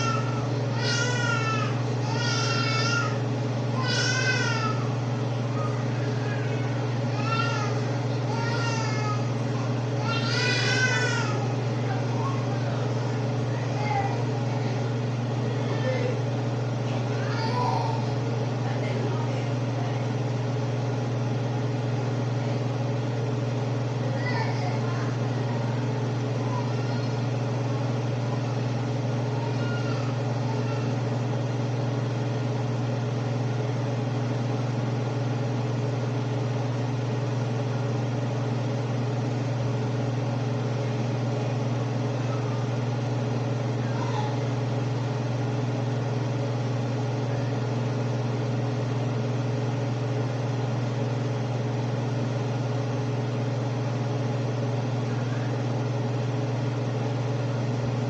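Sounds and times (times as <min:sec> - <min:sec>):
kitchen appliance motor humming: 0:00.0 - 0:58.0.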